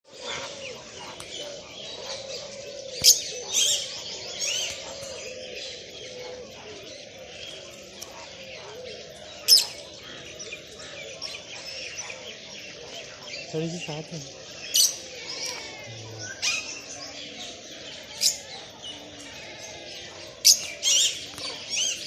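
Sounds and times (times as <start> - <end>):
lovebirds chirping and twittering: 0.0 - 22.0.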